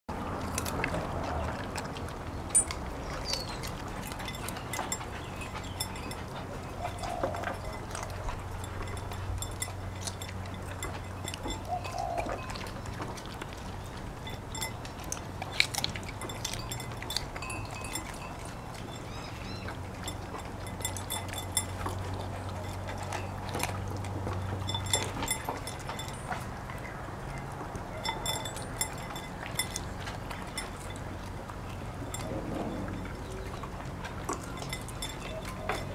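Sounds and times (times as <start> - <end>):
dog crunching vegetables: 0.1 - 35.9
steady low hum: 0.1 - 35.9
clinks against bowl: 2.5 - 12.8, 13.9 - 26.4, 27.9 - 31.1, 32.0 - 33.5, 34.3 - 35.9.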